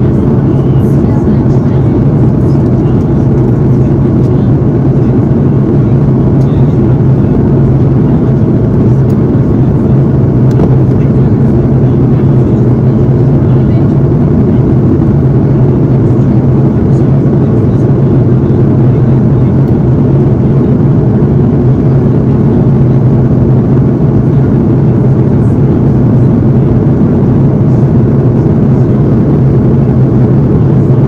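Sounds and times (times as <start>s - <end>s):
airliner cabin noise: 0.0s - 31.0s.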